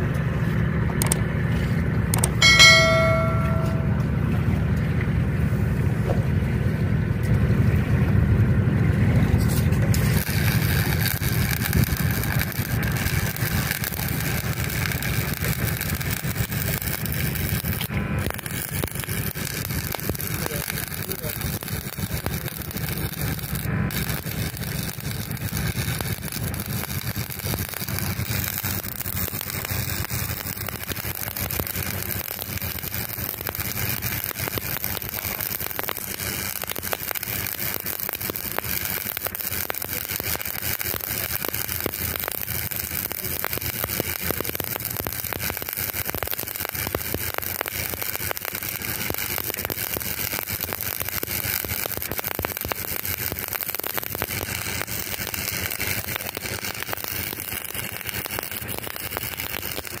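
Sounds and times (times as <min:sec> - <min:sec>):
arc welding crackling sizzle: 0:08.9 - 1:00.0.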